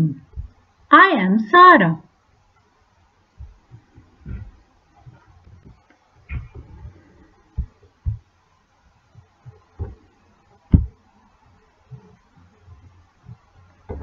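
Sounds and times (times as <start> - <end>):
soft low thumps and knocks: 0.2 - 0.8, 3.3 - 14.0.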